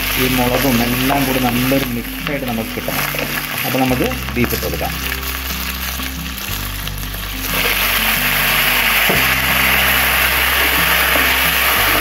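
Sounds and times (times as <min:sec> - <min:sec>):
background music with bass line: 0:00.0 - 0:12.0
meat sizzling in hot oil: 0:00.0 - 0:12.0.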